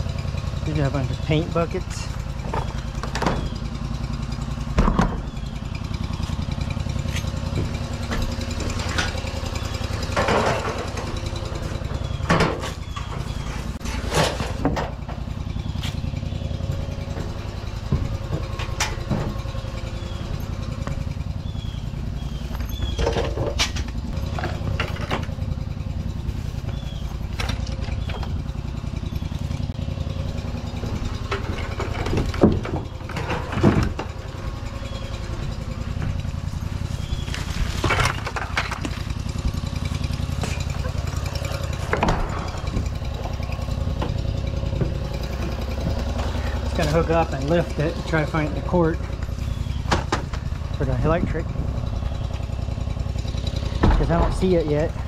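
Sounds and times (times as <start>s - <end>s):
engine idling: 0.0s - 55.0s
knocks and clunks: 1.8s - 55.0s.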